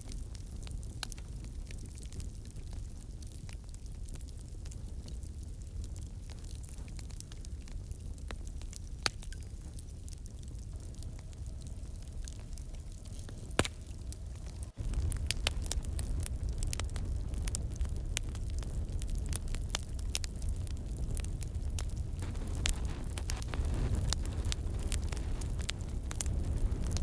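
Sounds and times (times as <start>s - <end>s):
low fire rumble: 0.0s - 27.0s
wood fire crackling: 0.1s - 27.0s.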